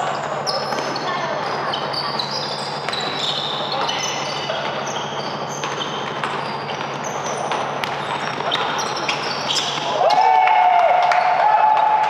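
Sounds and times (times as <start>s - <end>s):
sneakers squeaking: 0.0s - 10.4s.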